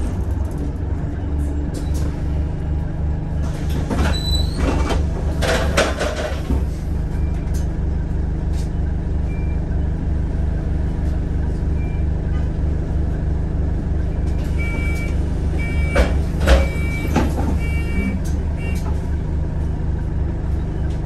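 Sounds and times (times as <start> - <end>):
bus engine droning: 0.0 - 21.0.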